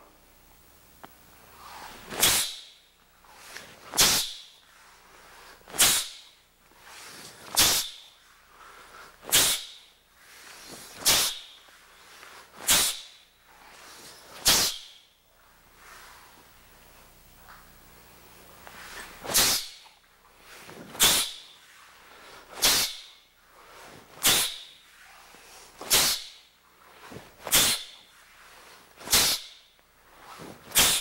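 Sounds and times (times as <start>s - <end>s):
uniform swishing and snapping: 1.6s - 16.6s, 18.5s - 31.0s.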